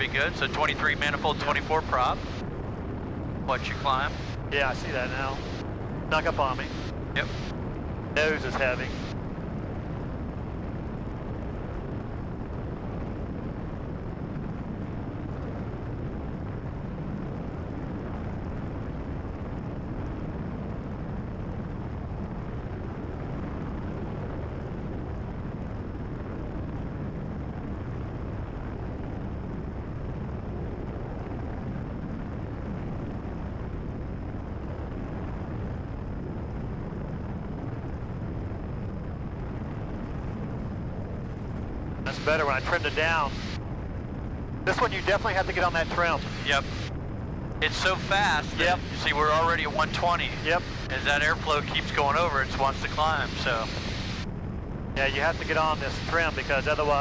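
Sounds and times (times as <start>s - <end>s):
airplane engine droning in cabin: 0.0s - 57.0s.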